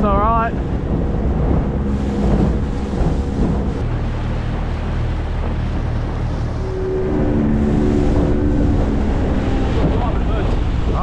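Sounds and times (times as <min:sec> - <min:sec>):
outboard motor humming: 0:00.0 - 0:11.0
water rushing past hull: 0:00.0 - 0:11.0
wind buffeting microphone: 0:00.0 - 0:11.0.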